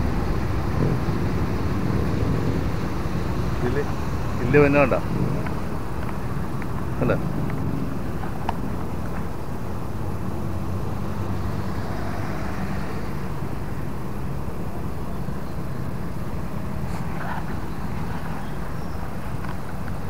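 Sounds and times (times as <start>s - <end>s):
road traffic rumble: 0.0s - 20.0s
vehicle engine drone: 0.0s - 20.0s.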